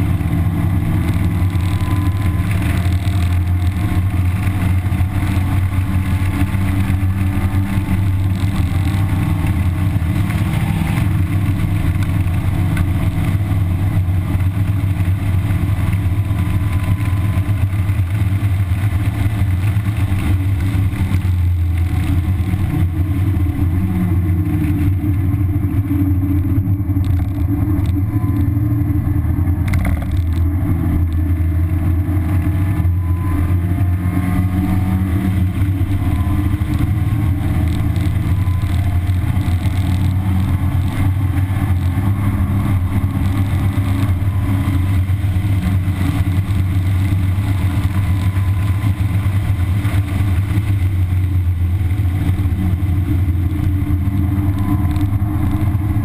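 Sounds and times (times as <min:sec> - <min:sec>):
car engine at speed: 0:00.0 - 0:56.0
road and wind noise: 0:00.0 - 0:56.0.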